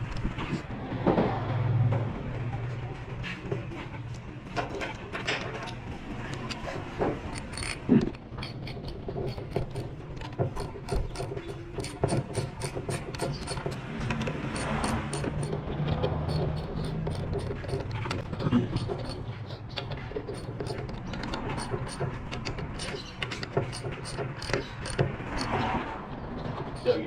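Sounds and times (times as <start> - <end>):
hand tools clicking on metal: 4.9 - 27.0.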